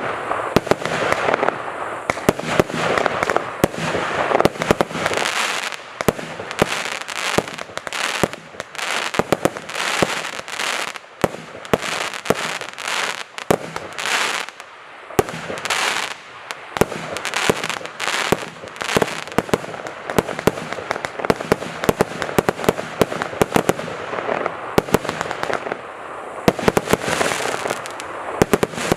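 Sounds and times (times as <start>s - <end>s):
sharp firework cracks: 0.0s - 25.8s, 26.4s - 28.9s
fireworks whooshing bursts: 0.0s - 28.9s.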